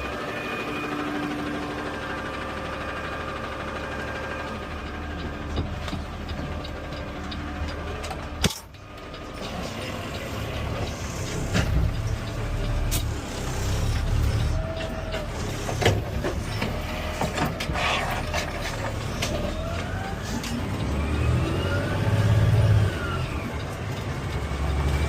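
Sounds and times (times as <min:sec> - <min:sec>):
garbage truck engine running: 0:00.0 - 0:25.0.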